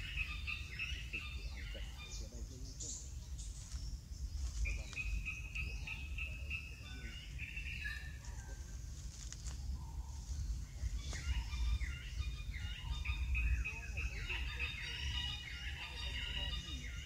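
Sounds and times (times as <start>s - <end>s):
bird calls: 0.0s - 17.0s
constant low rumble: 0.0s - 17.0s.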